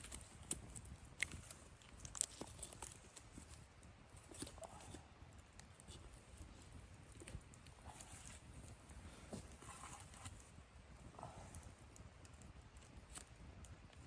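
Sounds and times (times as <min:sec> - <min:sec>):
faint small clicks and crackles: 0:00.0 - 0:14.0
low steady background hiss: 0:00.0 - 0:14.0.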